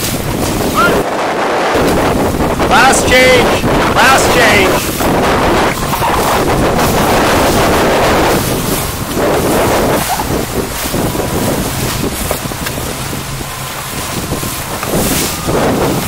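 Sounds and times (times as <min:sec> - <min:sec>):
canoe paddling: 0:00.0 - 0:16.0
water rushing along boat hull: 0:00.0 - 0:16.0
wind buffeting microphone: 0:00.0 - 0:16.0.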